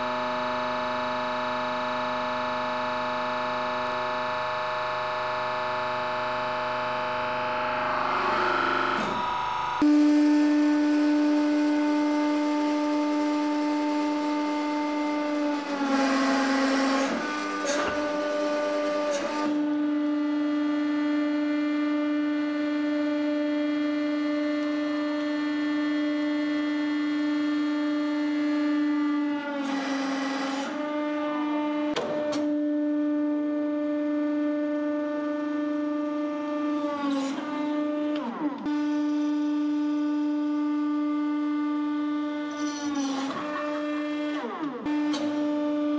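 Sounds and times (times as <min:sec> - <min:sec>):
hydraulic pump whining: 0:00.0 - 0:45.9.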